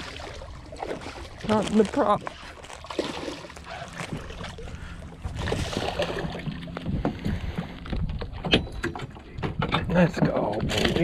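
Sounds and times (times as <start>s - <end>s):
fish splashing and thrashing: 0.0s - 11.0s
water sloshing against hull: 0.0s - 11.0s.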